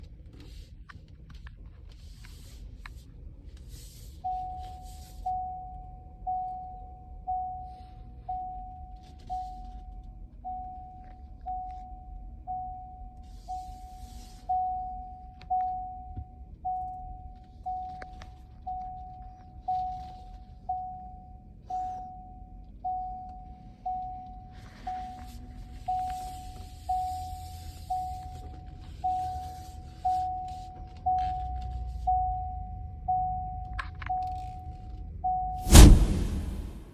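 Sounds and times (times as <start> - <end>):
low steady rumble: 0.0 - 36.9
warning chime tone: 4.3 - 36.9.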